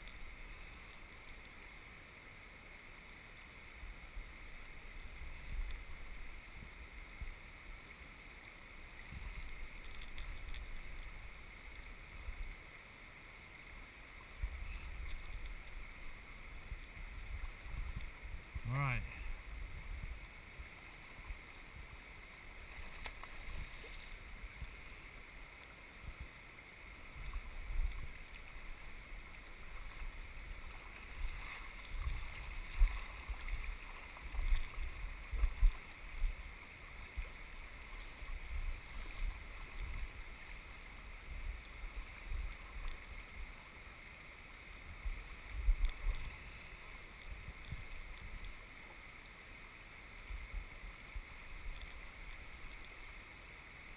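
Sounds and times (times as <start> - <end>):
river water rushing over gravel: 0.0 - 53.9.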